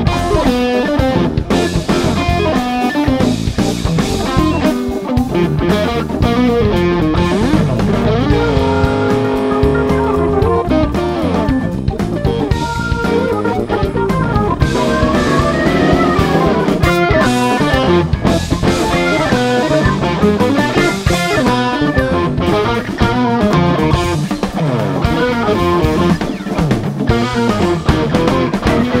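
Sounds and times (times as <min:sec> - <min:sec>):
electric guitar runs: 0:00.0 - 0:29.0
jazz-rock band playing: 0:00.0 - 0:29.0.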